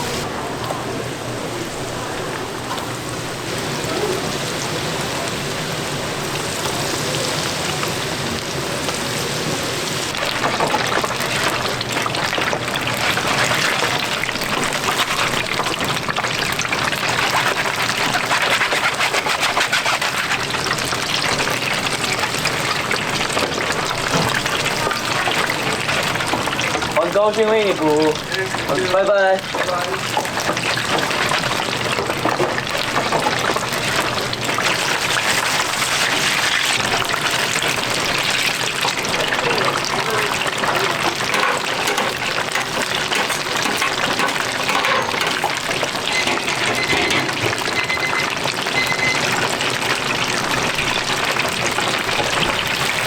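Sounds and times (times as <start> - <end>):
food deep-frying in oil: 0.0 - 53.0.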